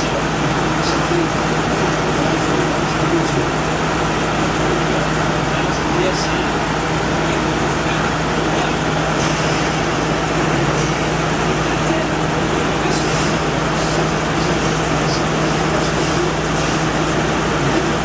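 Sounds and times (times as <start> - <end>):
air conditioner fan rushing: 0.0 - 18.0
compressor humming: 0.0 - 18.0.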